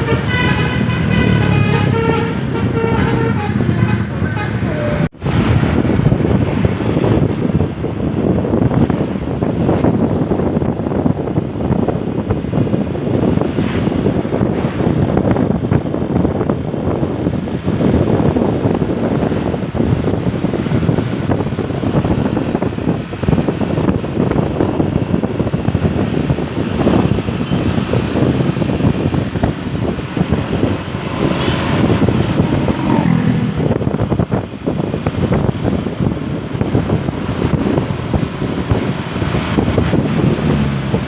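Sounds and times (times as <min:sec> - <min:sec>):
vehicles on the road: 0:00.0 - 0:41.0
wind buffeting microphone: 0:00.0 - 0:41.0.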